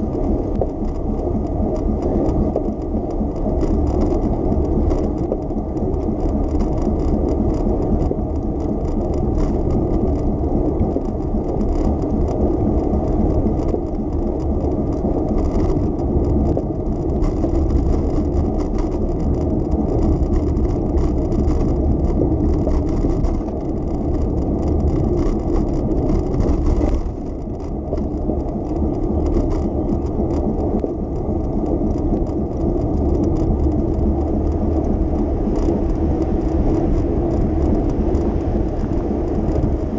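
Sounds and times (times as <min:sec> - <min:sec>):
bicycle tyres rolling on road: 0:00.0 - 0:39.9.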